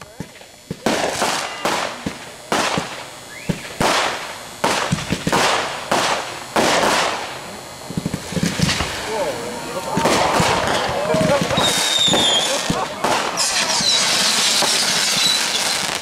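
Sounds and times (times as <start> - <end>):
fireworks bursting with hiss: 0.0 - 16.0
rapid crackling pops: 0.0 - 16.0.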